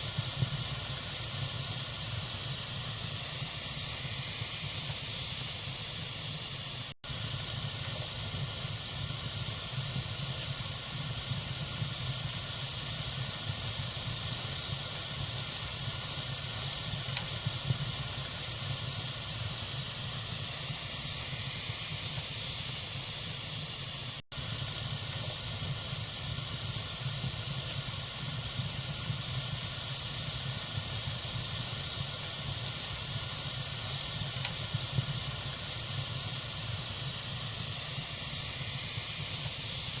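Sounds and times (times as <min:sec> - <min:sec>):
wood fire crackling and hissing: 0:00.0 - 0:40.0.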